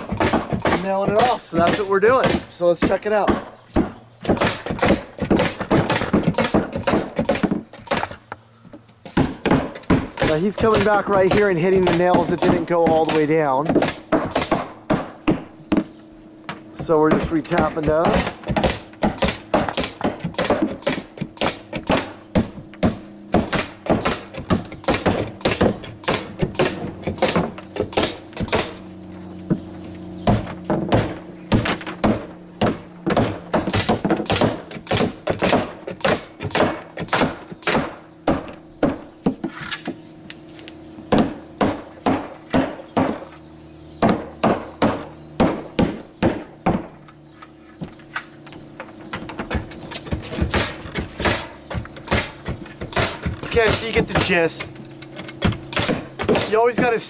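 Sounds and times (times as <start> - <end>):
hammers striking nails into wood: 0.0 - 8.4, 9.0 - 15.9, 16.5 - 28.8, 30.2 - 39.9, 41.1 - 47.0, 49.0 - 57.0.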